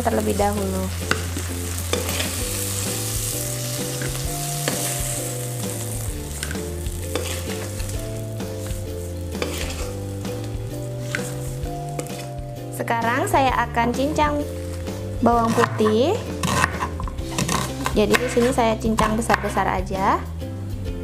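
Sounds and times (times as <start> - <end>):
fat sizzling in a wok: 0.0 - 19.4
slow background music: 0.0 - 21.0.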